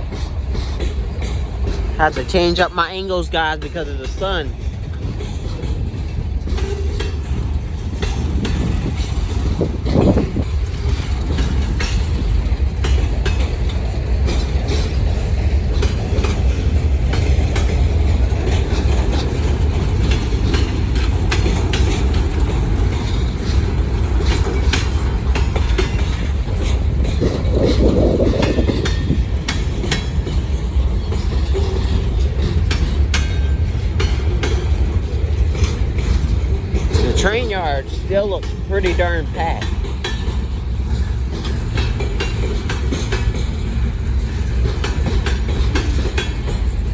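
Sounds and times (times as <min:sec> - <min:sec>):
freight train rumbling past: 0:00.0 - 0:46.9
wheels clicking over rail joints: 0:00.0 - 0:46.9.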